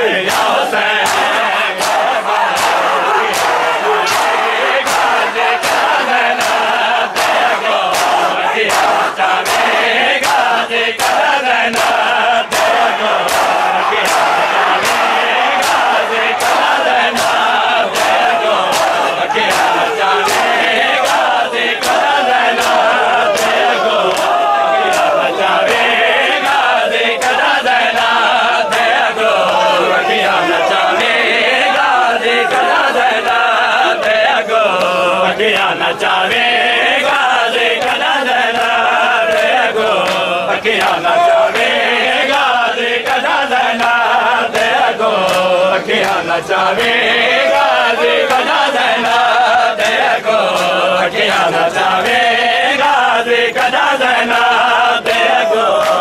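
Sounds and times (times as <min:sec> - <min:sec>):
men chanting a lament: 0:00.0 - 0:56.0
hands slapping chests: 0:00.2 - 0:30.4, 0:32.5 - 0:51.4, 0:53.6 - 0:56.0.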